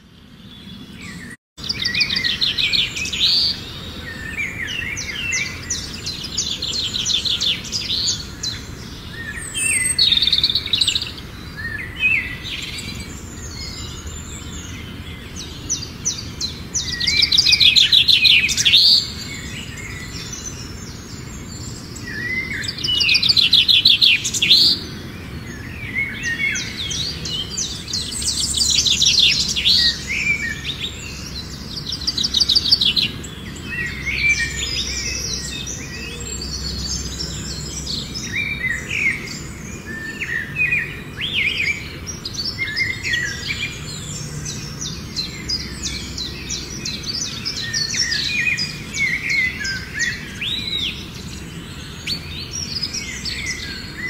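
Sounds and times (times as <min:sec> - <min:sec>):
songbirds trilling and chirping: 0:00.0 - 0:54.0.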